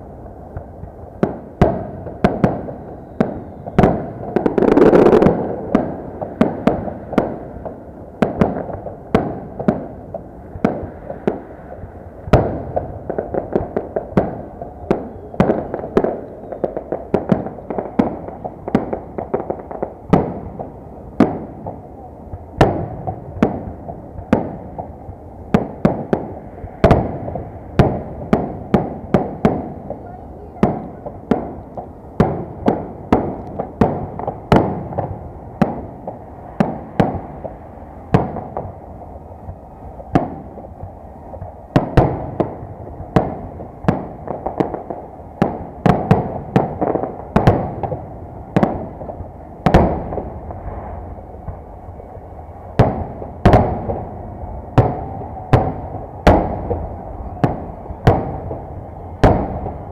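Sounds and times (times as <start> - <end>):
fireworks bangs: 0.5 - 59.9.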